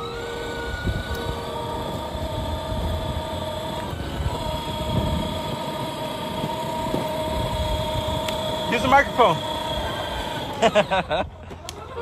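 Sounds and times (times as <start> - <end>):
electric motors whining: 0.0 - 12.0
plastic wheels rumbling on ground: 0.0 - 12.0.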